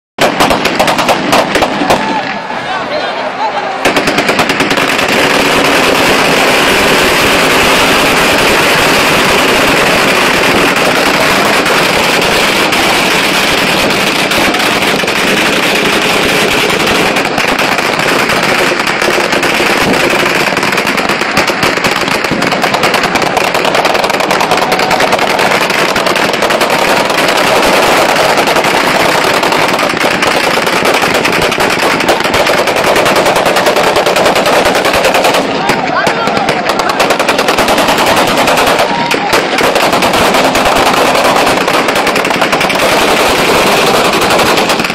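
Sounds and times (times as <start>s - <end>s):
dense gunfire: 0.2s - 2.4s, 3.8s - 44.9s.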